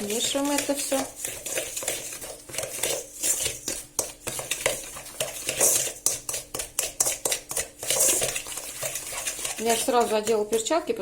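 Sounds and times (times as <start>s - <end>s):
spoon scraping a bowl: 0.0s - 11.0s.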